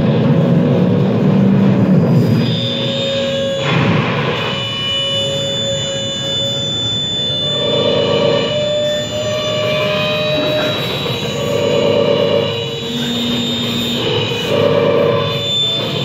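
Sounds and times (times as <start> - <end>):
noisy electronic drone: 0.0 - 16.0
held high and middle tones: 2.4 - 16.0.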